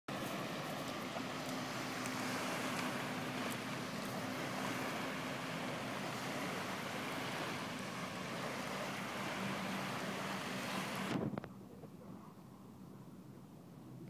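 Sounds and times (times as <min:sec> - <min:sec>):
distant motorboat engine hum: 0:00.1 - 0:14.0.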